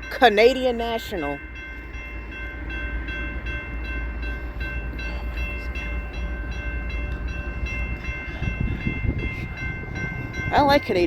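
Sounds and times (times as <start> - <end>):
crossing bell ringing: 0.0 - 11.0
freight train rumbling: 0.0 - 11.0.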